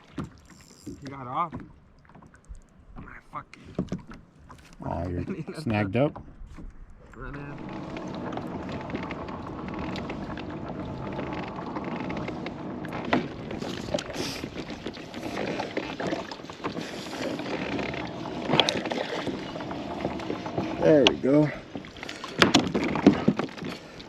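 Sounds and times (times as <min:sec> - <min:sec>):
water sloshing around kayak: 0:00.0 - 0:24.0.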